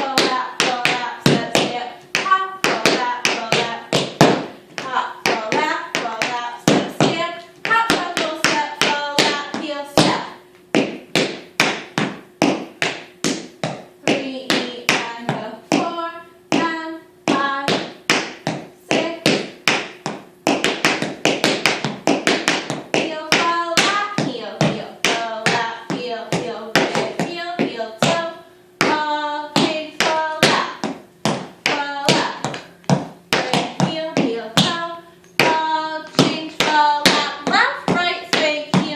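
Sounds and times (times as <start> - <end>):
tap shoes on hard floor: 0.2 - 15.9, 16.5 - 29.0, 29.6 - 38.9.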